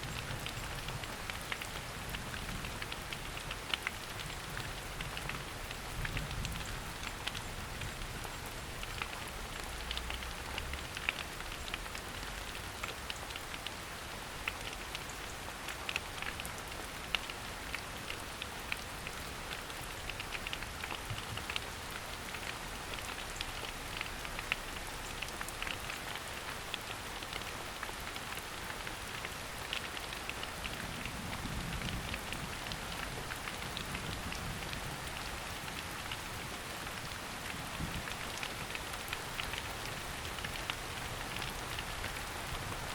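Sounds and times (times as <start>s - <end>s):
rain falling on foliage: 0.0s - 42.9s.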